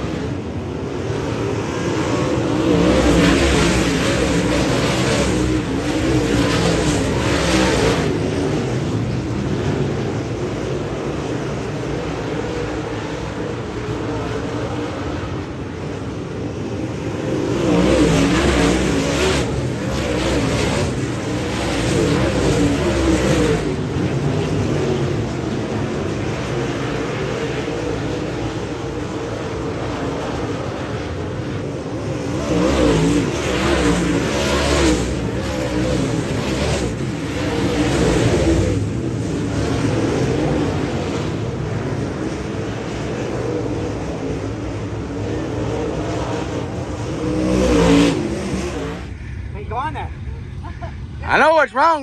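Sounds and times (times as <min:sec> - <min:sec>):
race car engine revving: 0:00.0 - 0:52.0
steady rushing noise: 0:00.0 - 0:52.0.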